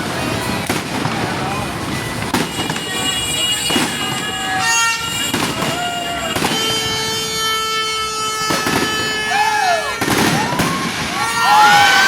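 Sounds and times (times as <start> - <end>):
fireworks banging: 0.0 - 12.0
horns tooting: 1.2 - 12.0.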